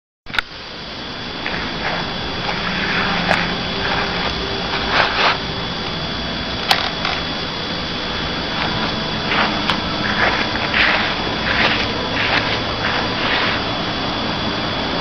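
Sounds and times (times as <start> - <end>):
steady hiss: 0.4 - 15.0.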